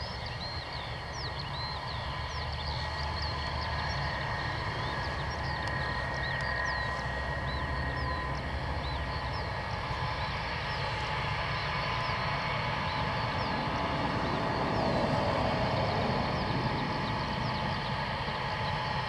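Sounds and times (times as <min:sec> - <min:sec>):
distant aircraft engine whine: 0:00.0 - 0:19.0.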